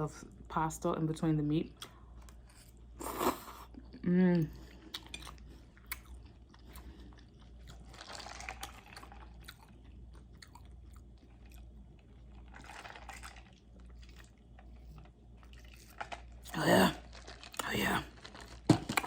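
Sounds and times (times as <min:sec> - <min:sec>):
chewing spaghetti: 0:01.8 - 0:19.0.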